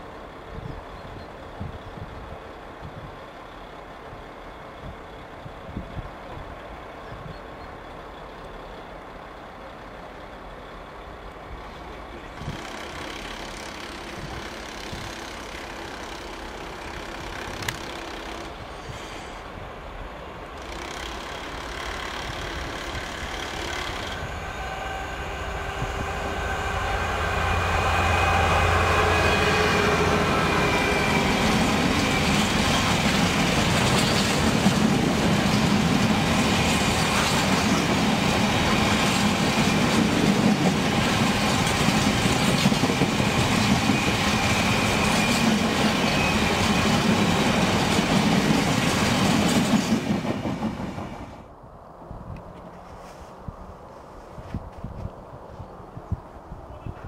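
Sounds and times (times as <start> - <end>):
diesel locomotive engine hum: 0.0 - 57.0.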